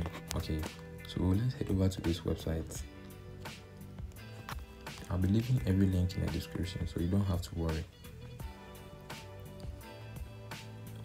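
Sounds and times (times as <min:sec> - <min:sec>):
light beat: 0:00.0 - 0:11.0.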